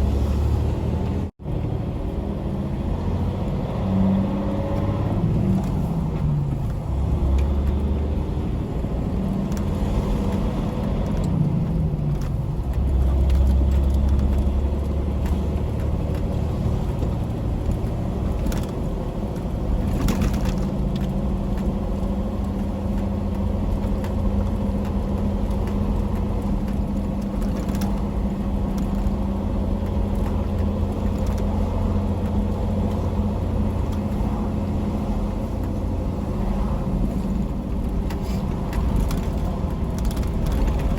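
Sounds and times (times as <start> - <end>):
road rumble: 0.0 - 40.9
truck diesel engine driving: 0.0 - 40.9.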